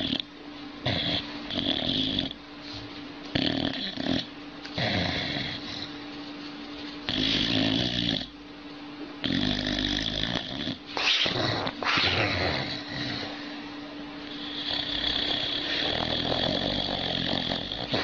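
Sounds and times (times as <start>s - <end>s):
dog snoring: 0.0s - 2.4s, 3.3s - 6.0s, 7.1s - 8.4s, 9.2s - 13.5s, 14.2s - 18.0s.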